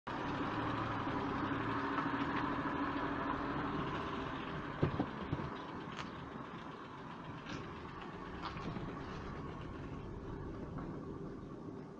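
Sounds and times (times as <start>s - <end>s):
vehicle engine low hum: 0.1s - 11.9s.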